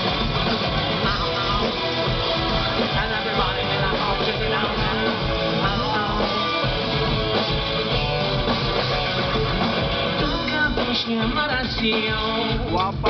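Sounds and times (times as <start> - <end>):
electric guitar: 0.0 - 13.0
live rock band playing: 0.0 - 13.0.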